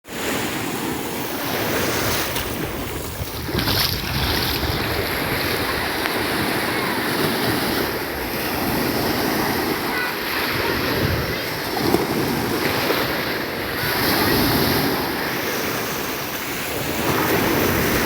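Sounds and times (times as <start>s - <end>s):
ocean surf washing onto beach: 0.0s - 18.0s
wind buffeting microphone: 0.9s - 18.0s.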